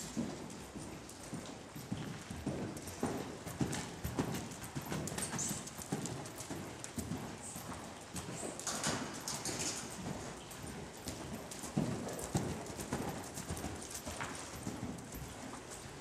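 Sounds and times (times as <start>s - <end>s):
horse hoofbeats on soft dirt: 0.0s - 16.0s.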